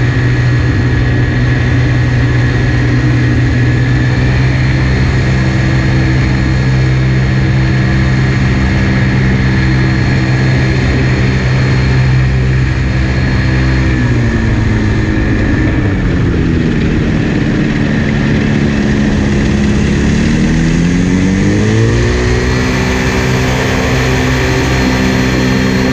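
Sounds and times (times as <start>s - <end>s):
engine and propeller running: 0.0s - 25.9s.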